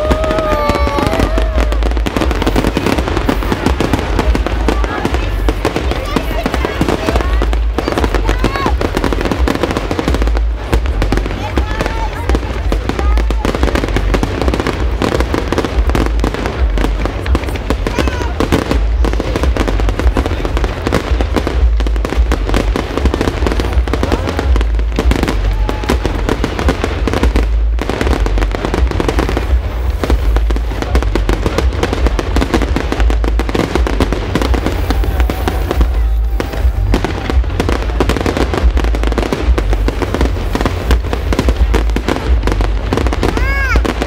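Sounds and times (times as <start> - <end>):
fireworks crackling: 0.0 - 44.0
heavy low rumble: 0.0 - 44.0.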